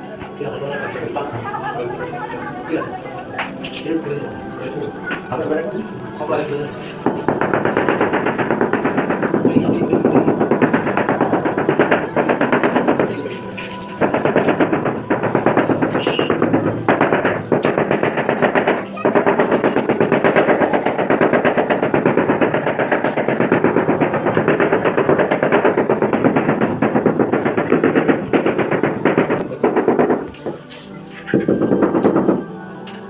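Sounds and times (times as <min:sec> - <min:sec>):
rapid mechanical tapping: 0:00.0 - 0:33.0.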